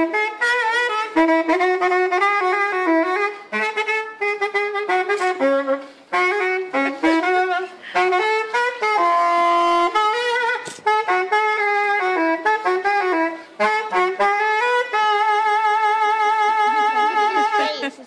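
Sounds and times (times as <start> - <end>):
saxophone melody: 0.0 - 18.0.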